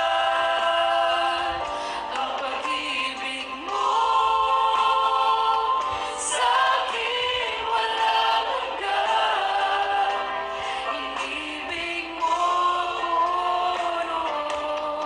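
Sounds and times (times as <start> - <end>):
choir singing gospel: 0.0 - 15.0.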